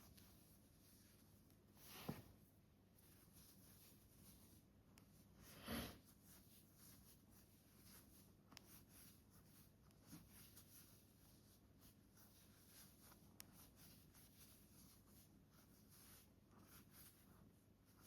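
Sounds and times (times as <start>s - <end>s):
crochet hook rustling yarn: 0.0s - 18.0s.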